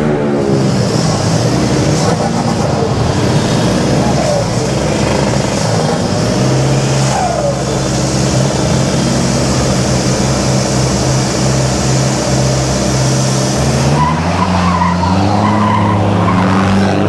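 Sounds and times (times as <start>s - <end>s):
diesel engine at raised revs: 0.0s - 17.0s.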